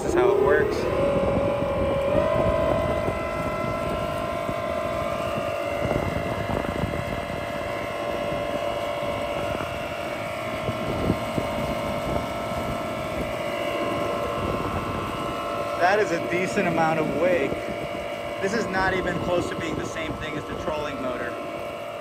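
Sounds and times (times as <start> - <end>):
electric motor whine: 0.0 - 22.0
wind on microphone: 0.0 - 22.0.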